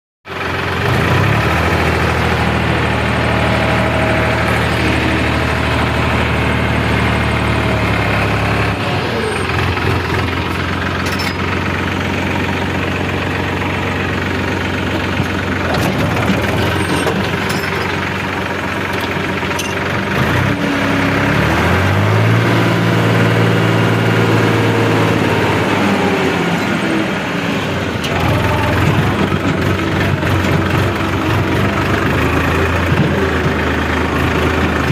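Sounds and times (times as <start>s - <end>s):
tractor diesel engine pulling load: 0.3s - 34.9s.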